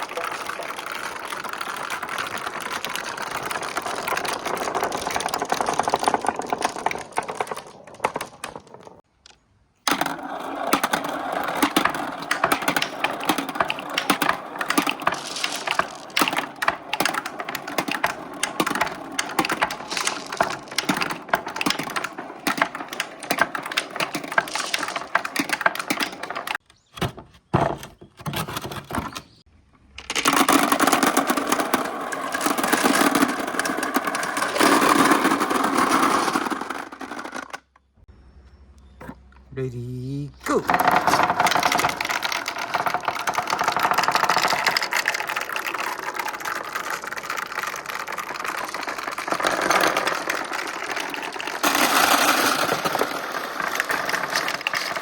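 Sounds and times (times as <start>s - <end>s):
glass marbles clattering down a run: 0.0s - 9.0s, 9.9s - 26.6s, 30.0s - 37.5s, 40.6s - 55.0s.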